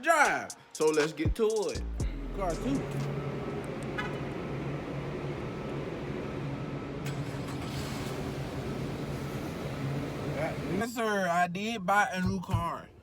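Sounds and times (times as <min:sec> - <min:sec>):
car engine hum: 0:01.8 - 0:12.6.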